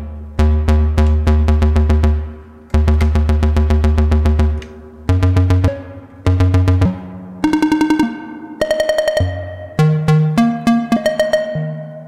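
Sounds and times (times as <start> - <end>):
synthesizer repeated bass notes: 0.0 - 12.0.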